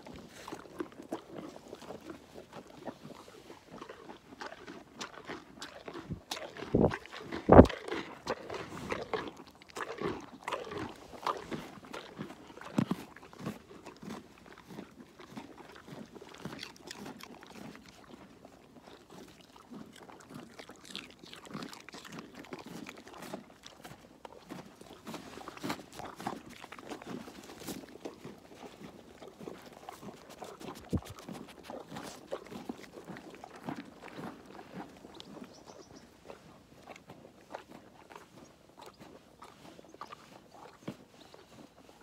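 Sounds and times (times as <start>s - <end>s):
alpaca crunching carrots: 0.0s - 42.0s.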